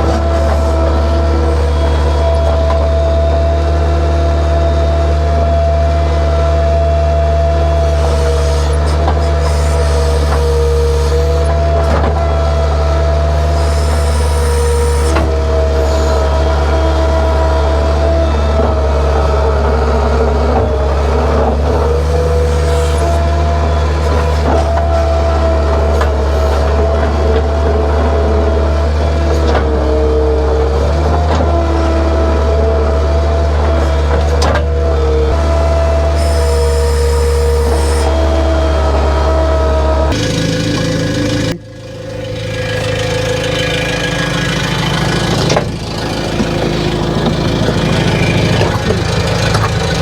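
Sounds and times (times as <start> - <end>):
heavy machine engine running: 0.0 - 50.0.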